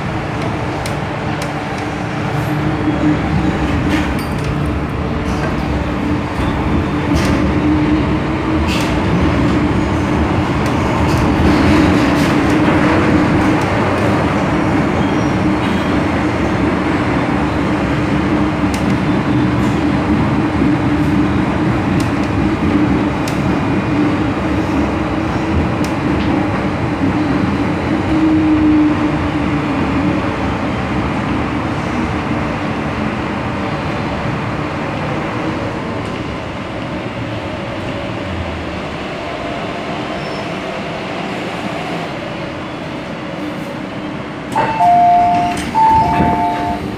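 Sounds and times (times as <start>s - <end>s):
train hum: 0.0s - 46.9s
train wheels rumbling on rail: 0.0s - 46.9s.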